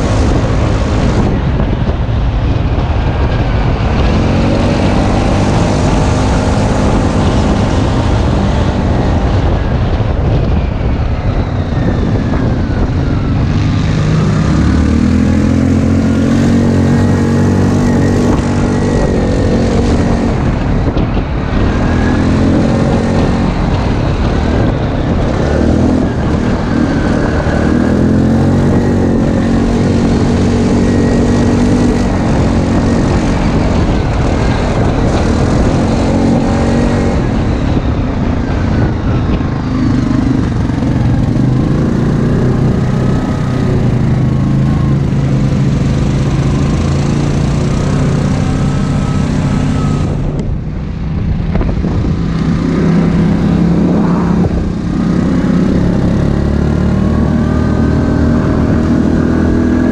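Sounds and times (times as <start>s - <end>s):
atv engine revving: 0.0s - 10.5s, 11.8s - 59.9s.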